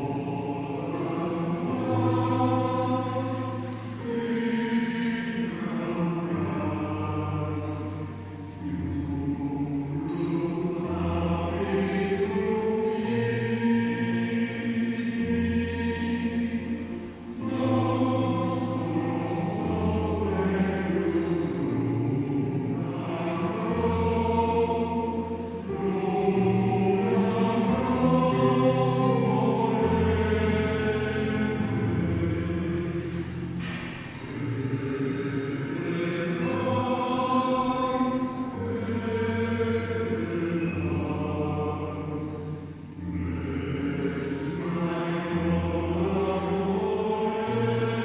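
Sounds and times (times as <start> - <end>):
choir singing held chords: 0.0 - 48.0.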